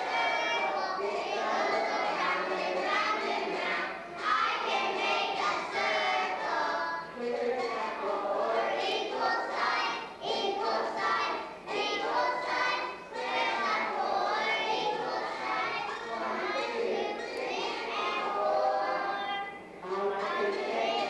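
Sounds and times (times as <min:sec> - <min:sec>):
children singing together: 0:00.0 - 0:21.0.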